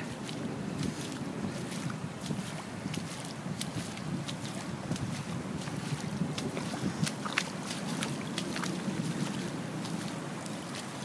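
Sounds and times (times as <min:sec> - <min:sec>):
rainwater flooding: 0:00.0 - 0:11.0
wind noise on microphone: 0:00.0 - 0:11.0.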